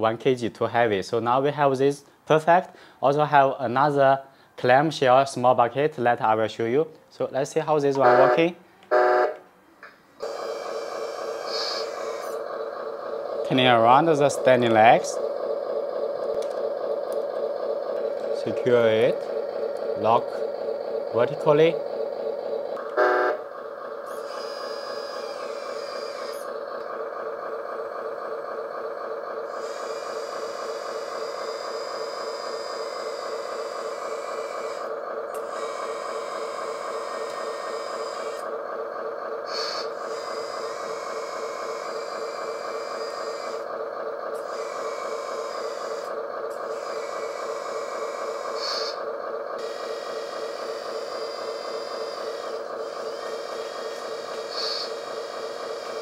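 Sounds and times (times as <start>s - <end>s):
hydraulic pump whining: 8.0s - 56.0s.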